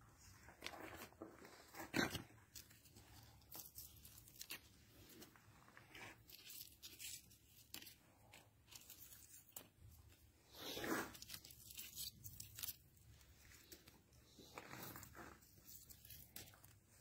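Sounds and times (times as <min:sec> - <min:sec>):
faint rustling and scraping: 0:00.0 - 0:17.0.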